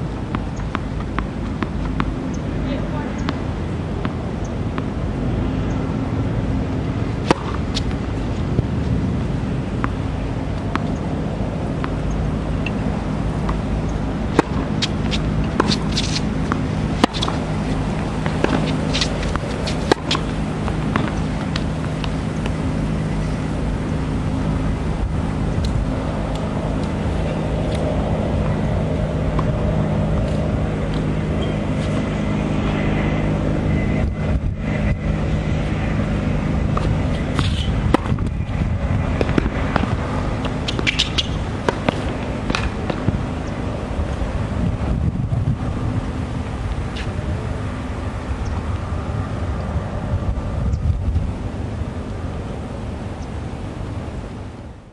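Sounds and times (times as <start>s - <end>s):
low mechanical hum: 0.0s - 54.9s.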